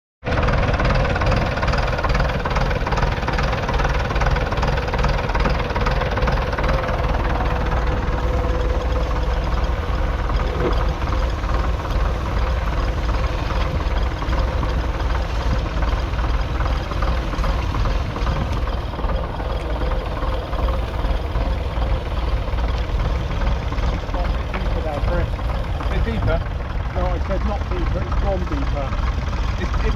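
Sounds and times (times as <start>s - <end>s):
tractor diesel engine running: 0.2s - 29.9s.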